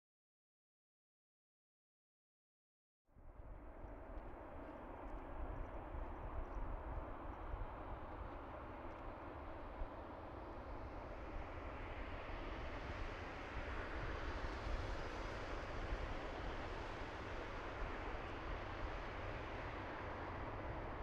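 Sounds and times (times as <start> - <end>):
jet engines at takeoff: 3.2 - 21.0.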